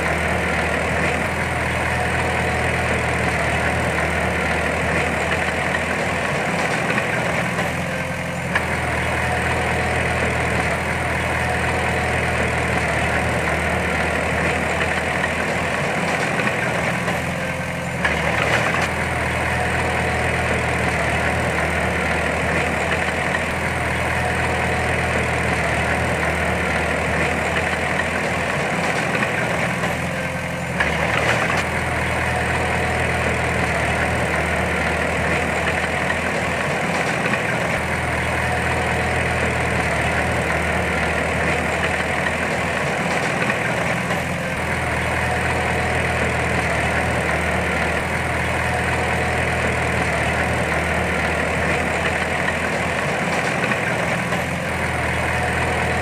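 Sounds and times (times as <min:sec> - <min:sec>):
diesel machine engine running: 0:00.0 - 0:56.0.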